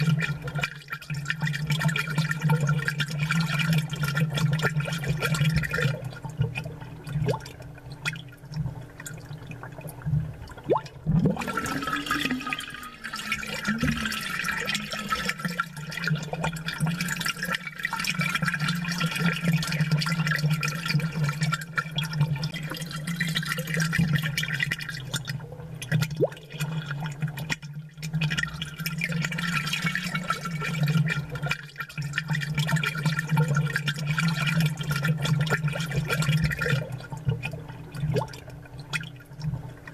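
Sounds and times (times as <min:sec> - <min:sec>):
aquarium air bubbles gurgling: 0:00.0 - 0:39.9
low pump hum: 0:00.0 - 0:39.9.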